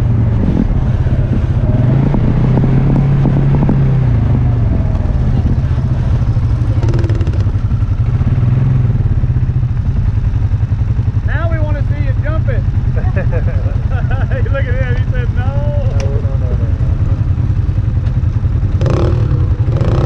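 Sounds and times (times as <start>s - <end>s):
off-road vehicle engine droning: 0.0s - 20.0s.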